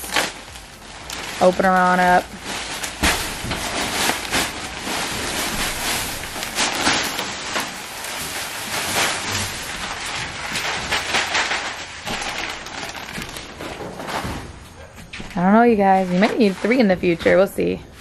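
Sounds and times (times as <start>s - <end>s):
plastic bag crinkling: 0.0s - 17.8s.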